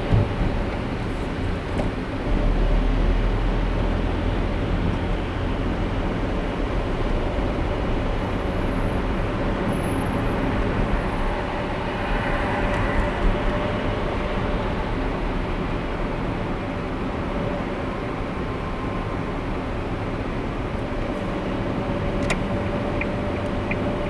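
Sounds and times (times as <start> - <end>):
low engine hum: 0.0 - 24.0
road and tyre noise: 0.0 - 24.0.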